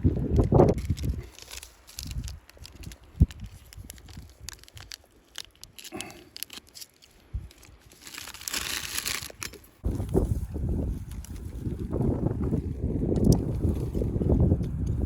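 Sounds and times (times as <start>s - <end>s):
small clicks and crackles: 0.0s - 10.2s, 10.9s - 11.8s, 13.1s - 15.0s
rustling and crinkling: 0.0s - 15.0s.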